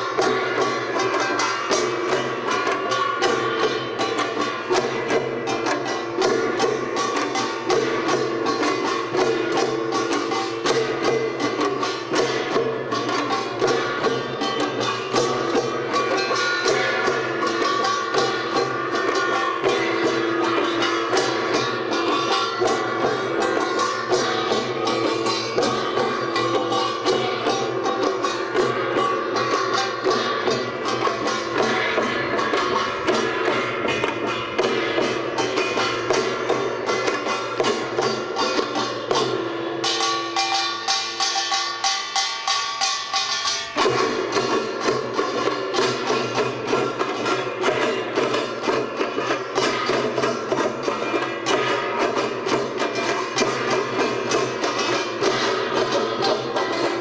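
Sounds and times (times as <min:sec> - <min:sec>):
large gongs ringing: 0:00.0 - 0:57.0
small gongs struck rapidly: 0:00.0 - 0:57.0.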